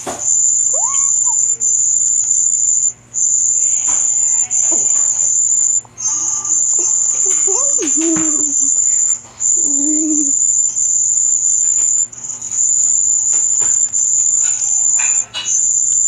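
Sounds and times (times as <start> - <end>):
high-pitched electronic whine: 0.0 - 16.0.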